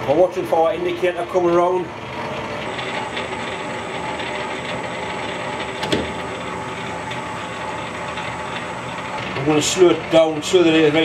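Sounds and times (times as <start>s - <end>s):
metalworking lathe running: 0.0s - 11.0s.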